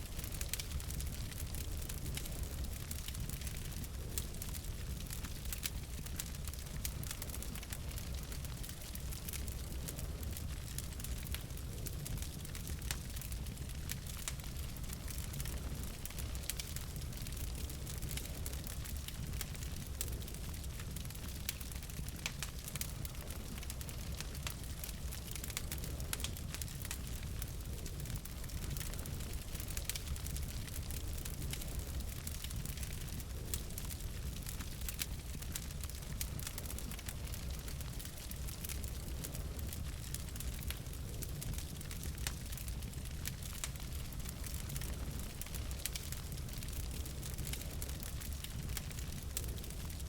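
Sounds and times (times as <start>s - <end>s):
logs crackling and popping: 0.0s - 50.0s
low rumble of flame: 0.0s - 50.0s.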